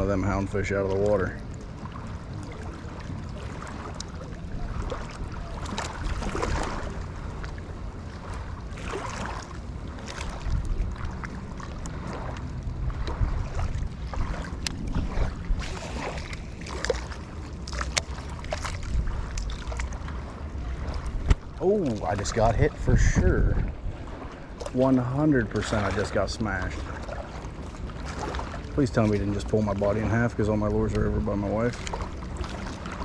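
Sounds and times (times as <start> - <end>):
small waves washing on beach: 0.0 - 33.0
wind buffeting microphone: 0.0 - 33.0.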